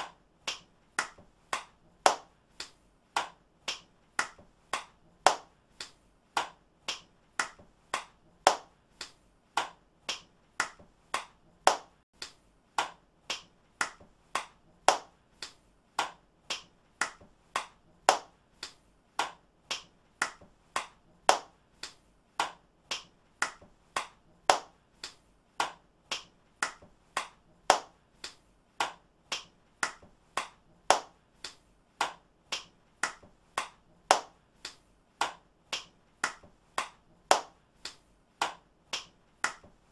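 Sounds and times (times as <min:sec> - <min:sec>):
hand claps: 0:00.0 - 0:39.9.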